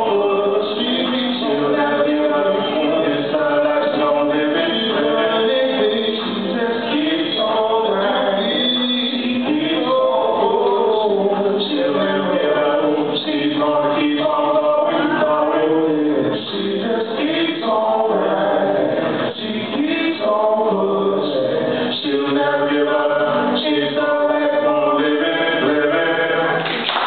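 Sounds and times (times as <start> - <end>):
male vocal trio singing in harmony: 0.0 - 26.8.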